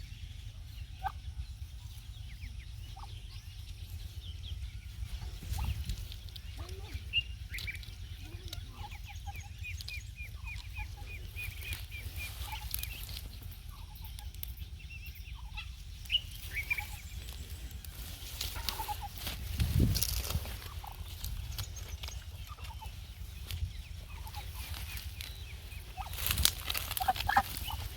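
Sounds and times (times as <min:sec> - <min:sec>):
chickens clucking: 0:00.0 - 0:27.9
low rumble: 0:00.0 - 0:27.9.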